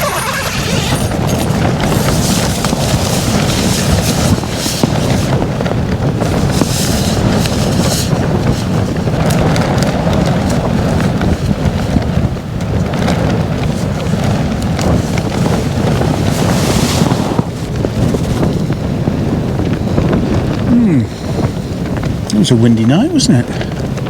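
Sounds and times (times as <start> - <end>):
gusty wind buffeting a tent: 0.0 - 24.0
wind rumble on microphone: 0.0 - 24.0.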